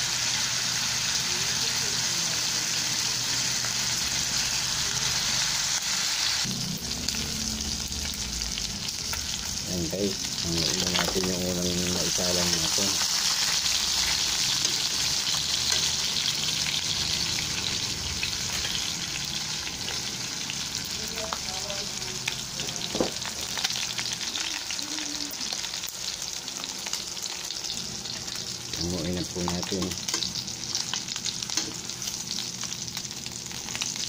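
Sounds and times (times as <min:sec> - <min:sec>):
meat sizzling in oil: 0:00.0 - 0:34.0.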